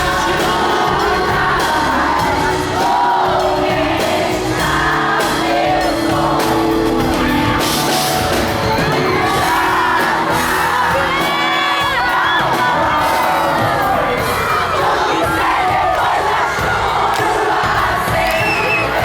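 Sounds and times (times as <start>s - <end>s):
crowd whooping and shouting: 0.0s - 19.0s
live pop-rock band with singing: 0.0s - 19.0s.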